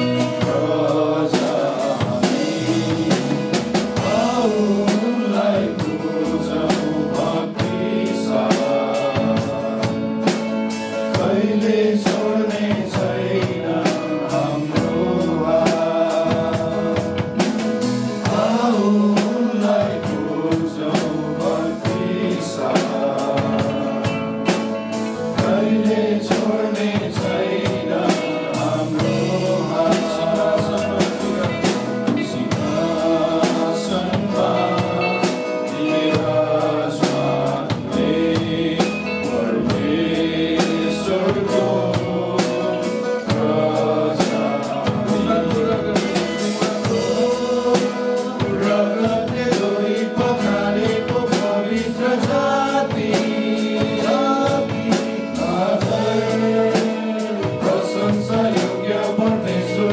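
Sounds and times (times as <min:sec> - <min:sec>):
drum kit steady beat: 0:00.0 - 0:59.9
guitar accompaniment: 0:00.0 - 0:59.9
voices singing together: 0:00.0 - 0:59.9.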